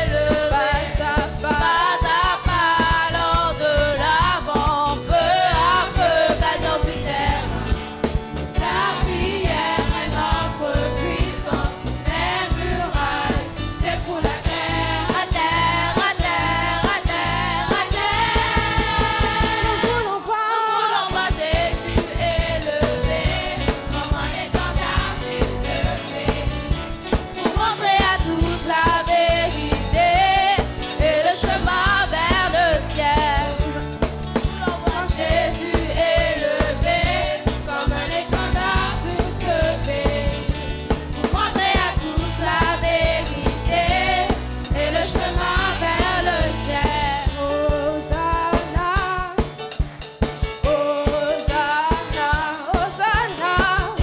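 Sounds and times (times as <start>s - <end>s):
girls singing gospel song: 0.0s - 7.8s, 8.5s - 26.8s, 27.4s - 33.8s, 34.5s - 40.6s, 41.2s - 49.3s, 50.6s - 54.0s
instrumental accompaniment: 0.0s - 54.0s.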